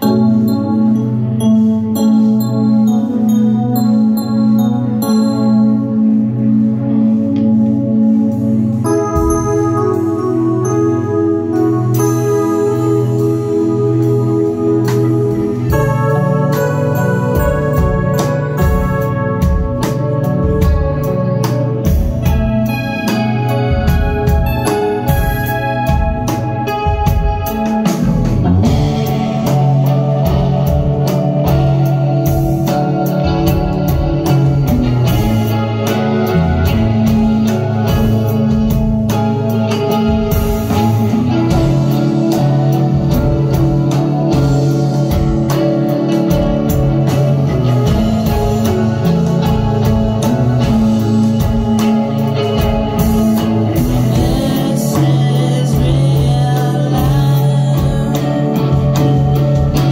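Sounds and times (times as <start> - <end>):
electric guitar: 0.0 - 59.9
live rock band playing: 0.0 - 59.9.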